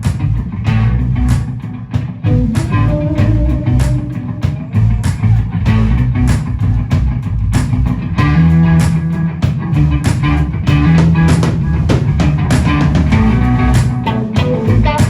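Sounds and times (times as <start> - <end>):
bass guitar: 0.0 - 15.0
guitar: 0.0 - 15.0
steady drum beat: 0.0 - 15.0.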